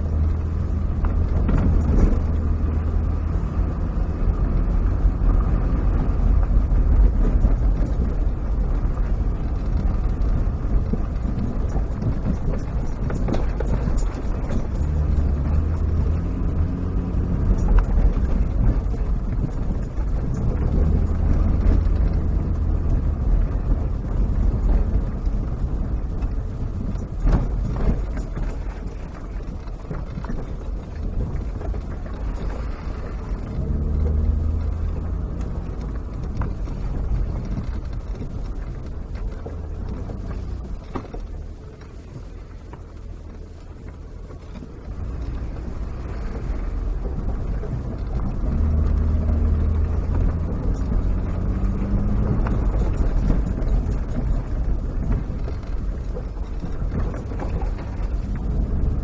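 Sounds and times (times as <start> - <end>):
car engine drone inside cabin: 0.0 - 59.0.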